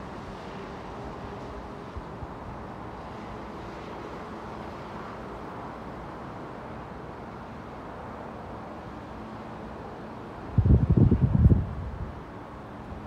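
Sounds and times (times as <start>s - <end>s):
urban background rumble and hiss: 0.0s - 13.0s.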